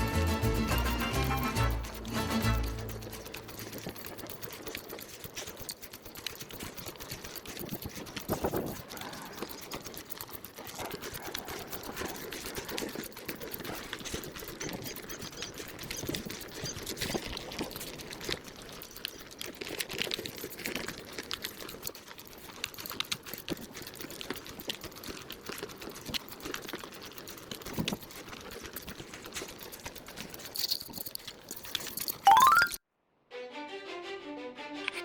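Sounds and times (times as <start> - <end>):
sped up footsteps: 0.0 - 32.7
outdoor background: 0.0 - 35.0.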